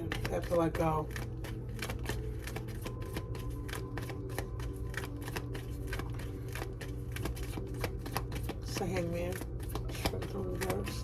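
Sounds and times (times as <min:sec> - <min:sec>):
cards shuffling: 0:00.0 - 0:11.0
soft background music: 0:00.0 - 0:11.0.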